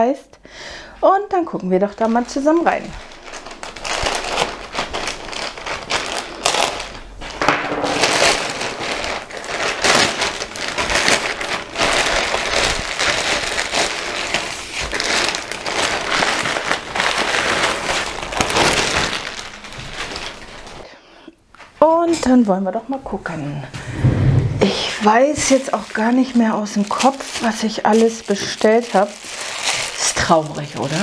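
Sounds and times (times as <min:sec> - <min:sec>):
packaging crinkling: 0:01.4 - 0:20.9, 0:24.6 - 0:31.0.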